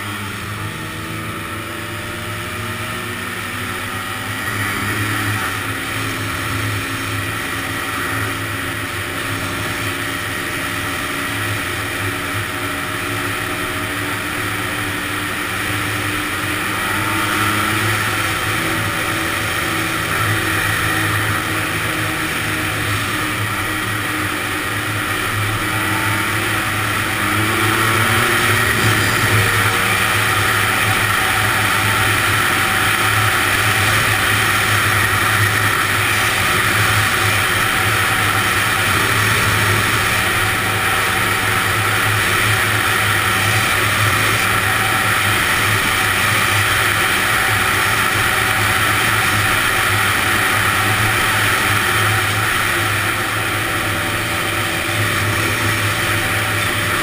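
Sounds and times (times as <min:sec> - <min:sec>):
two-stroke engine accelerating: 0:00.0 - 0:57.0.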